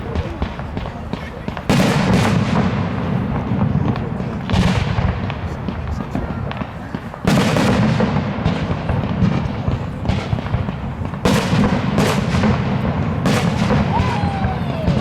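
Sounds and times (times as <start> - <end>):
firework shells booming: 0.0 - 15.0
fireworks crackling and popping: 0.0 - 15.0.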